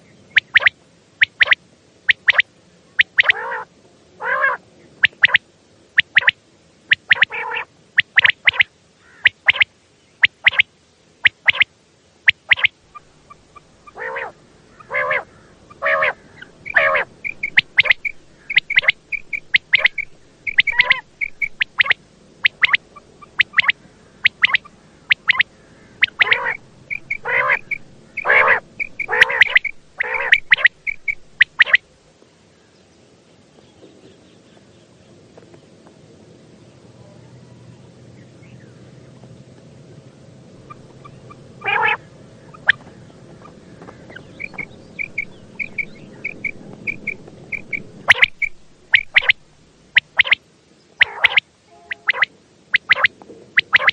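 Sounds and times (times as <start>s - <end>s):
quail calling: 0.0s - 5.4s, 6.0s - 11.7s, 12.3s - 31.9s, 40.6s - 50.4s, 51.0s - 53.9s
faint low hum: 0.0s - 53.9s.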